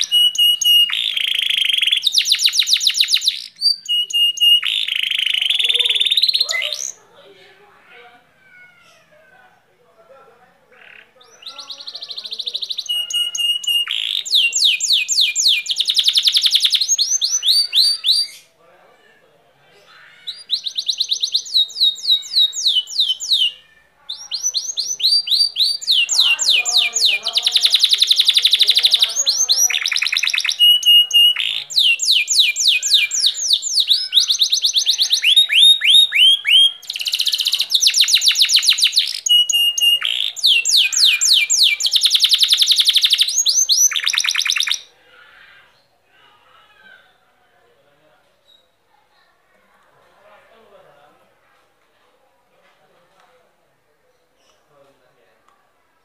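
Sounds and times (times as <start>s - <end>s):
canary singing trills: 0.0s - 9.7s, 10.7s - 18.6s, 19.6s - 47.2s.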